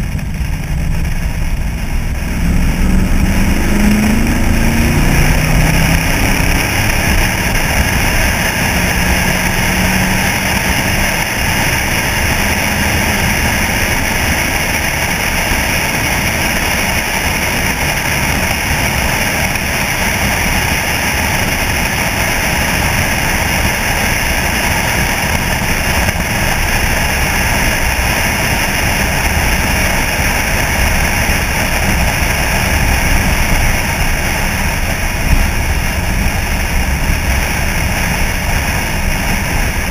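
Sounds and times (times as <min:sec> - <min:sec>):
pickup truck engine cruising: 0:00.0 - 0:39.9
wind rush on microphone: 0:00.0 - 0:39.9.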